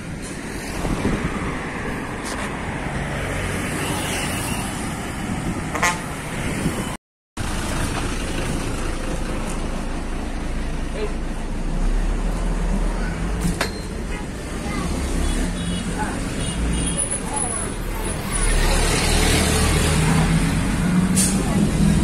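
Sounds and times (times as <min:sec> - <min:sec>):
bus engine and road noise: 0:00.0 - 0:22.0
highway traffic passing: 0:00.0 - 0:22.0.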